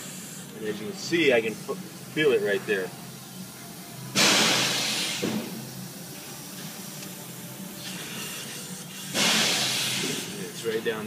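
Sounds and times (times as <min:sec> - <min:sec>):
compressed air hissing bursts: 0:00.0 - 0:11.0.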